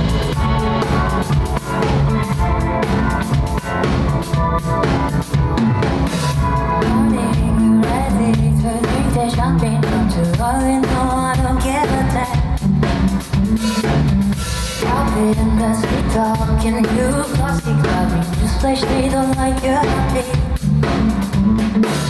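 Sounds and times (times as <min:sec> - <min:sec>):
drum kit beat: 0:00.0 - 0:22.0
pop song played by band: 0:00.0 - 0:22.0.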